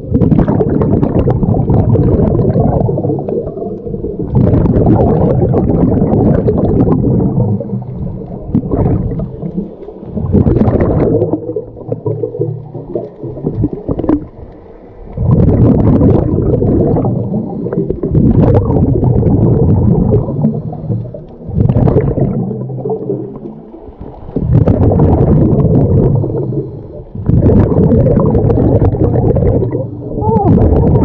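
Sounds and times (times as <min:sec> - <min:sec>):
underwater breath bubbles gurgling: 0:00.0 - 0:31.0.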